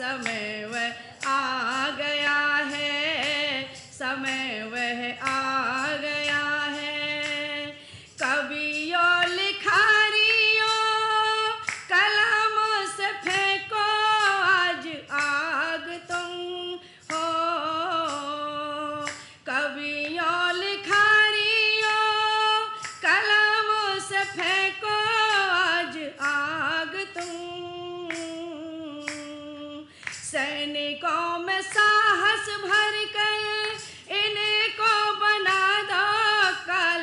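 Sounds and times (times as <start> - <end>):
woman singing into a microphone: 0.0 - 37.0.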